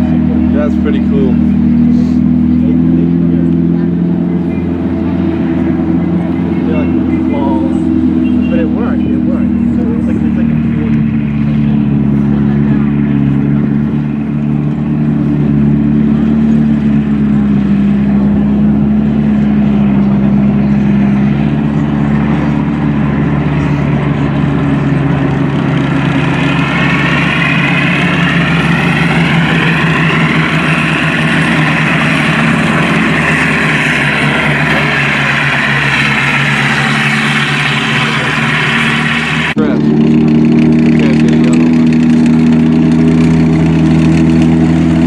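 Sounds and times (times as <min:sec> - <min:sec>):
tank engine running: 0:00.0 - 0:45.0.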